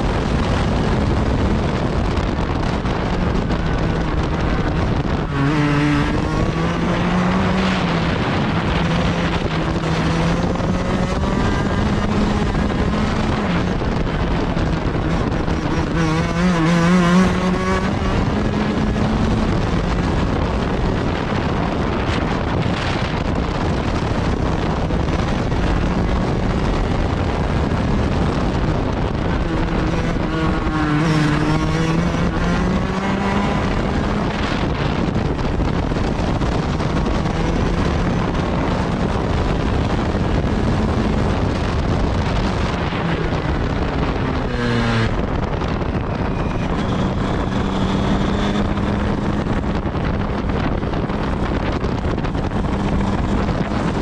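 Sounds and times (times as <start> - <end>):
go-kart engine: 0.0 - 54.0.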